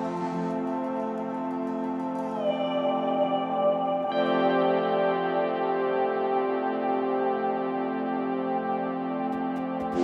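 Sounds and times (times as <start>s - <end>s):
ambient synthesizer chords: 0.0s - 10.0s.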